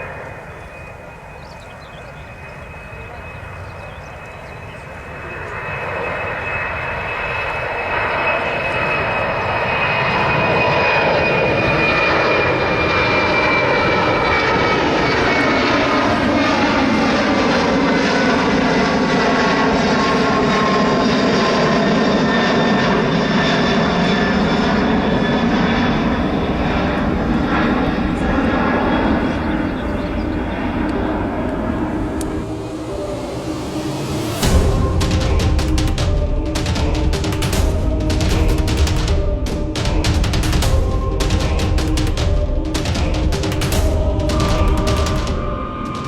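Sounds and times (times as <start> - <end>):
airplane engines running: 0.0 - 46.0
whining engine tones: 0.0 - 46.0.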